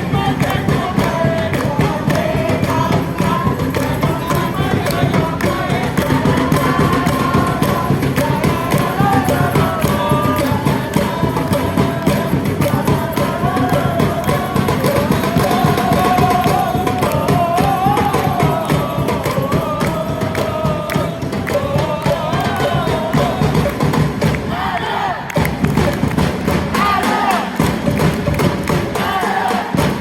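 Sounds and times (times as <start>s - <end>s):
drums beating steadily: 0.0s - 30.0s
supporters singing a chant: 0.0s - 30.0s.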